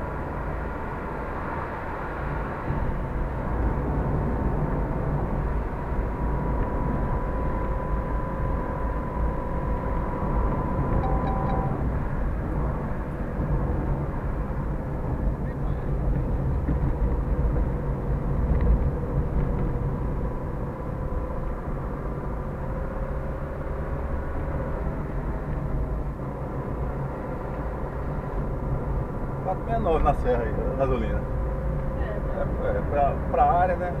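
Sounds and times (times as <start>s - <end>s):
engine and road rumble: 0.0s - 34.0s
faint whining tones: 4.8s - 33.0s.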